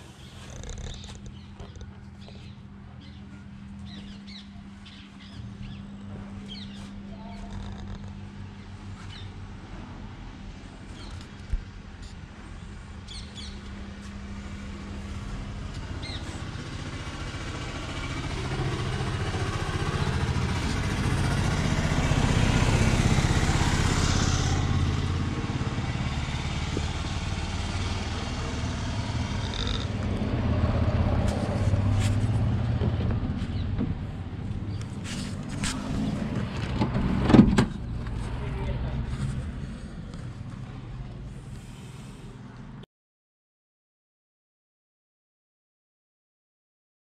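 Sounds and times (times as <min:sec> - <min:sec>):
vehicle passing on road: 0:00.0 - 0:42.8.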